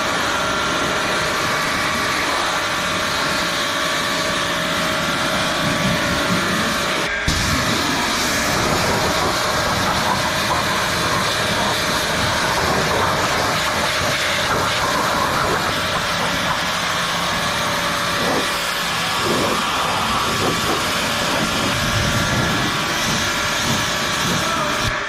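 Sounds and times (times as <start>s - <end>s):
high-pressure water jet hiss: 0.0s - 25.0s
pressure washer motor drone: 0.0s - 25.0s.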